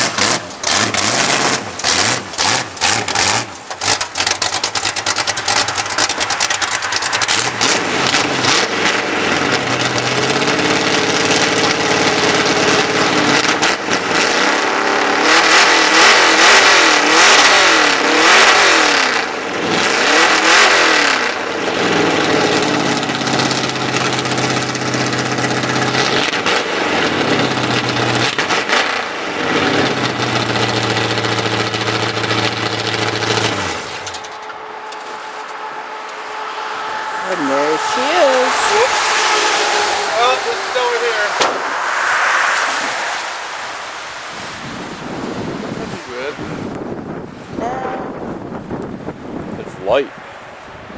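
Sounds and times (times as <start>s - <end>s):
truck engine revving: 0.0s - 50.1s.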